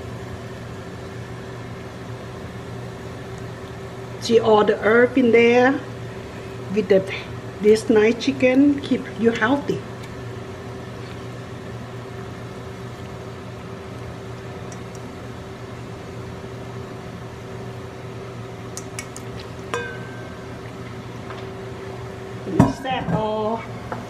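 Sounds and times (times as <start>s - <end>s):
kitchen appliance hum: 0.0s - 24.0s.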